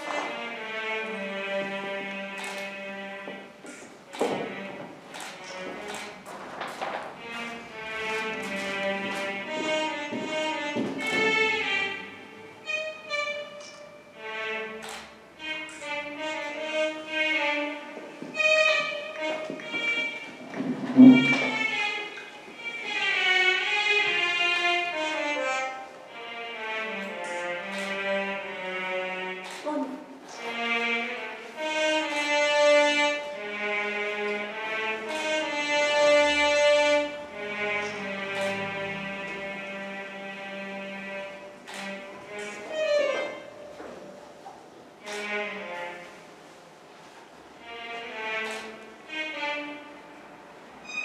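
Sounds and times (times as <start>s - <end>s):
bowed string melody: 0.0s - 6.3s, 7.0s - 51.0s
slow violin music: 0.0s - 51.0s.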